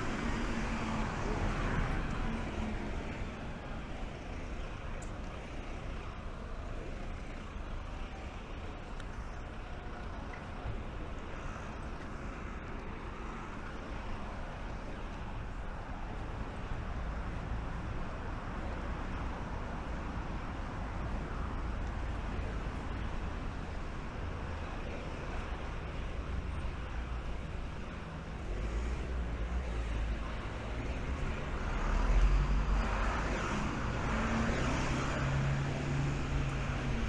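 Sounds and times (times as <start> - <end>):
rumble of passing traffic: 0.0 - 37.0.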